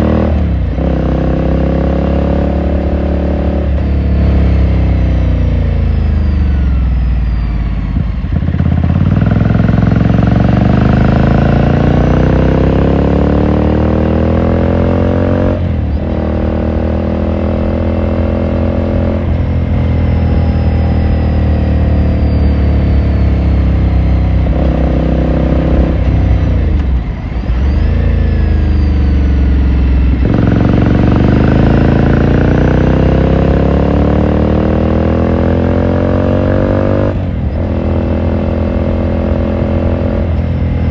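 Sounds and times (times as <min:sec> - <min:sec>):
motorcycle accelerating: 0:00.0 - 0:40.9.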